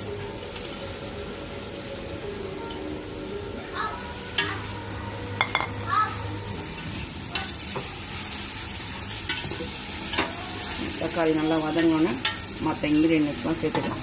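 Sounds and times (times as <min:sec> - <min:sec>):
tomatoes sizzling in oil: 0:00.0 - 0:14.0.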